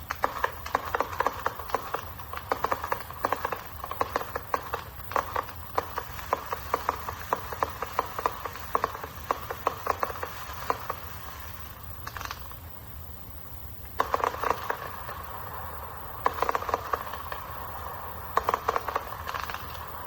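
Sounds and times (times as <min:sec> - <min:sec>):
firework cake firing: 0:00.0 - 0:20.0.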